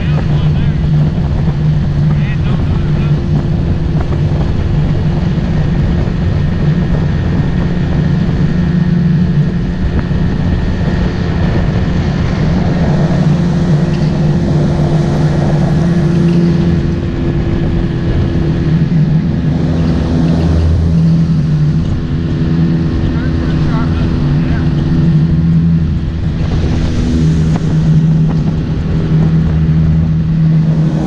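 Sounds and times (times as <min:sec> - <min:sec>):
motorboat engine droning: 0:00.0 - 0:31.0
wind and water rushing: 0:00.0 - 0:31.0.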